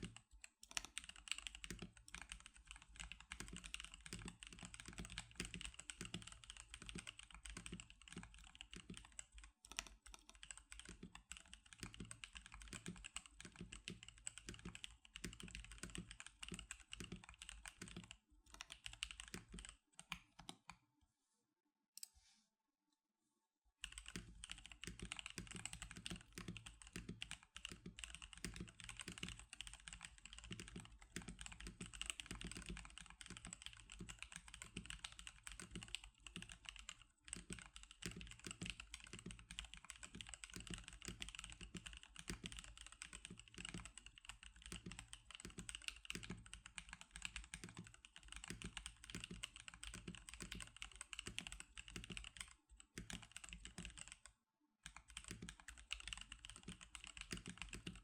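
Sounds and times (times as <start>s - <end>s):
mechanical keyboard typing: 0.0s - 20.7s, 23.8s - 58.0s.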